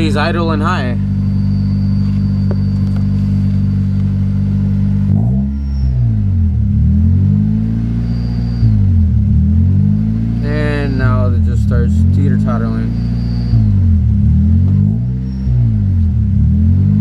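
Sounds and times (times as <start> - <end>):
car engine idle hunting: 0.0 - 6.8, 7.9 - 16.4.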